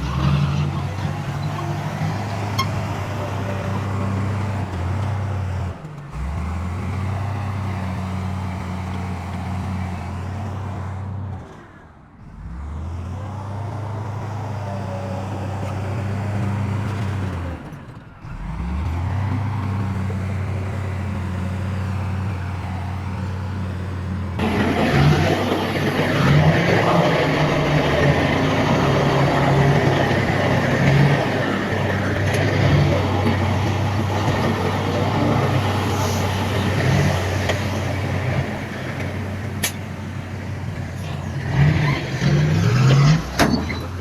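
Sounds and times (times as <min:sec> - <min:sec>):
heavy diesel engine running: 0:00.0 - 0:11.6, 0:12.2 - 0:44.0.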